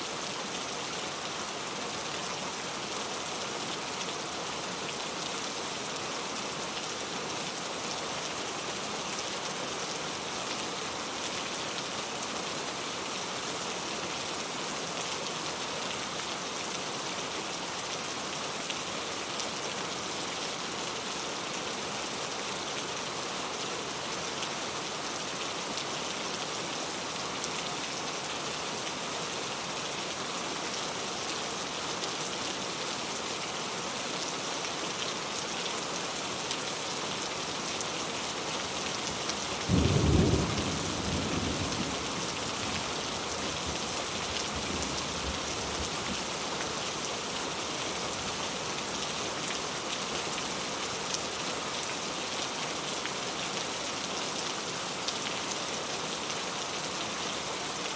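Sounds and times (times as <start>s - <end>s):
steady rain patter: 0.0s - 57.9s.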